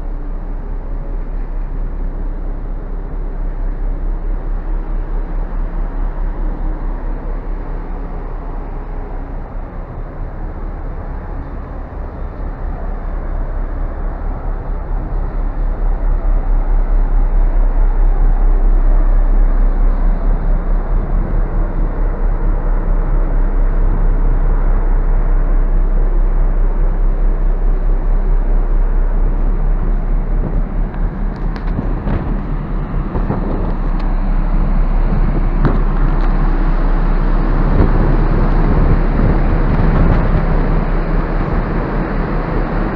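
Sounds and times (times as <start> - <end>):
ship engine drone: 0.0 - 42.9
wind buffeting microphone: 0.0 - 42.9.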